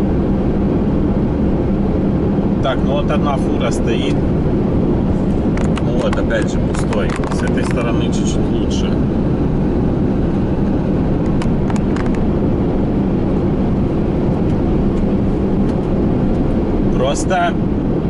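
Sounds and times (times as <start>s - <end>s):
road and tyre rumble: 0.0s - 18.0s
van engine drone: 0.0s - 18.0s.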